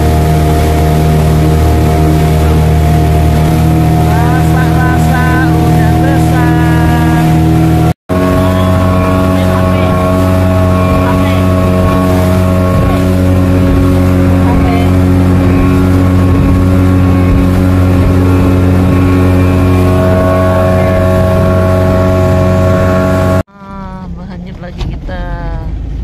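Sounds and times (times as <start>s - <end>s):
speedboat engine running: 0.0s - 26.0s.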